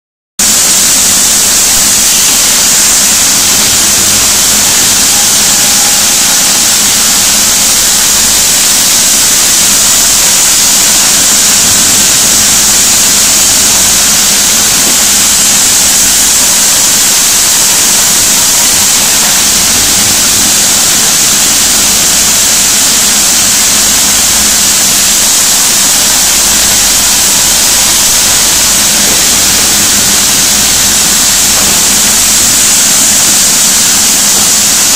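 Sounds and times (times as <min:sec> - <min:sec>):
sawmill saw hissing: 0:00.4 - 0:34.9.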